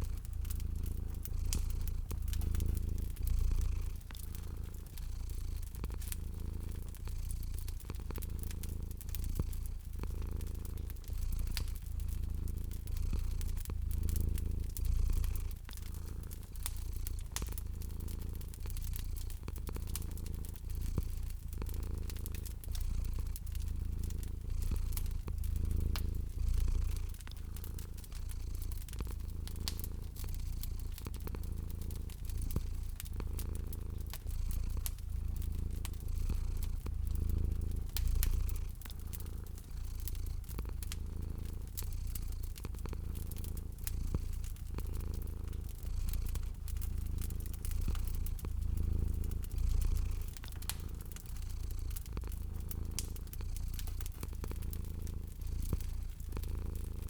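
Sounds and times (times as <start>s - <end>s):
cat purring: 0.0s - 57.0s
wood fire crackling: 0.0s - 57.0s.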